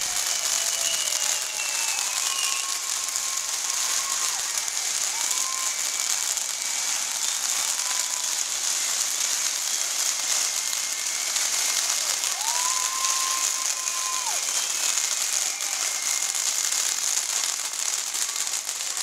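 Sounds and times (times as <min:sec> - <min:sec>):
rising whistle tone: 0:00.0 - 0:16.5
fireworks crackling hiss: 0:00.0 - 0:19.0.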